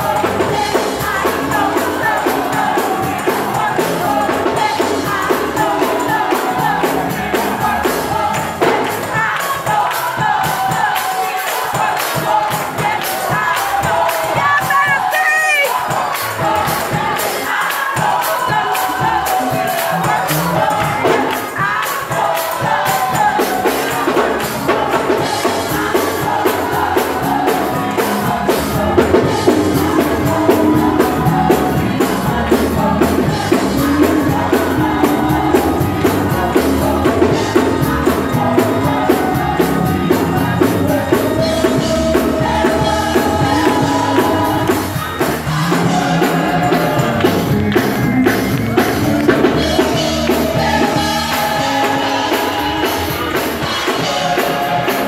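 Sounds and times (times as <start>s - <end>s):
fast driving beat: 0.0s - 55.0s
voices singing gospel: 0.0s - 55.0s.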